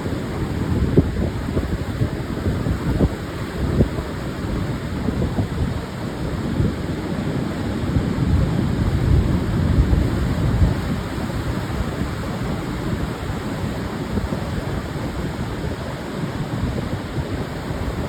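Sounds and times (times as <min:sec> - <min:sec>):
surf breaking on sandy beach: 0:00.0 - 0:18.0
wind on microphone: 0:00.0 - 0:18.0.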